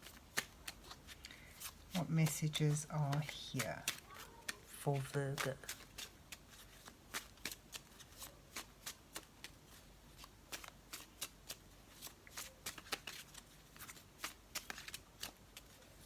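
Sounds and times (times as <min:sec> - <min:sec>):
cards being shuffled: 0:00.0 - 0:16.0.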